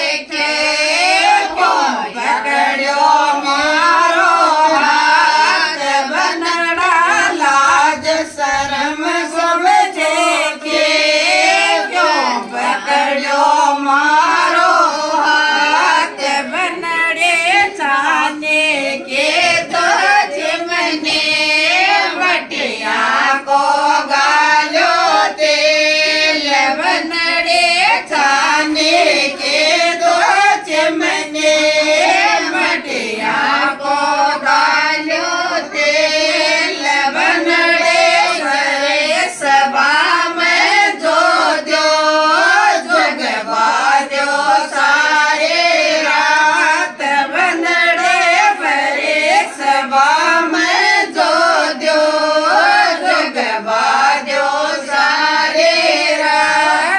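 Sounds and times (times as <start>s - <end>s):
women singing folk song together: 0.0s - 56.9s.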